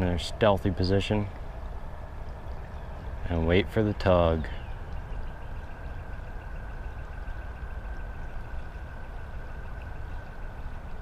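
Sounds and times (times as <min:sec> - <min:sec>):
flowing creek: 0:00.0 - 0:11.0.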